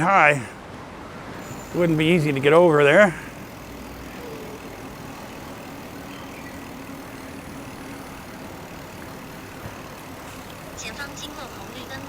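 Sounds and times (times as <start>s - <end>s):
engine hum: 0.0s - 12.0s
street traffic: 0.0s - 12.0s.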